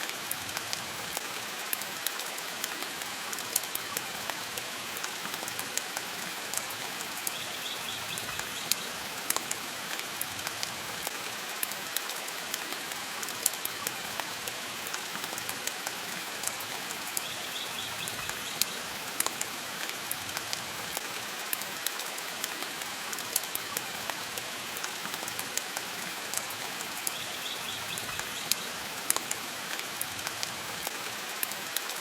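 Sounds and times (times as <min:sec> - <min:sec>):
rain hiss: 0:00.0 - 0:32.0.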